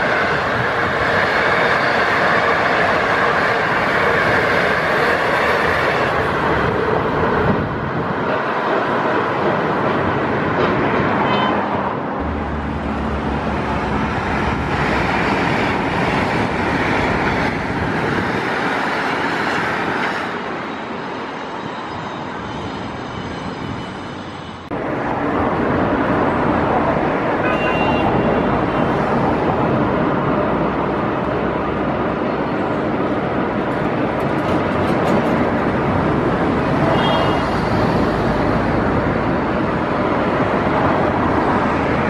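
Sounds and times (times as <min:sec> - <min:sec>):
train wheels rolling on rails: 0:00.0 - 0:42.0.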